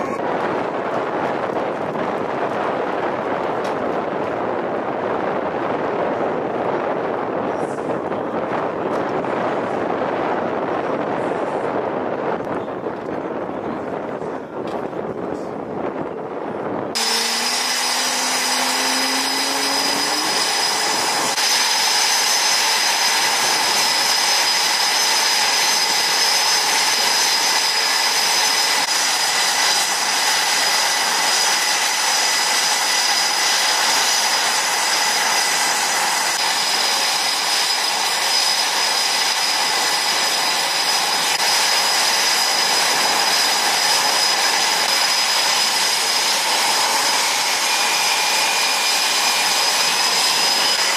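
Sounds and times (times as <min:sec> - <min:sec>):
jet engines idling with whine: 0:00.0 - 0:50.9.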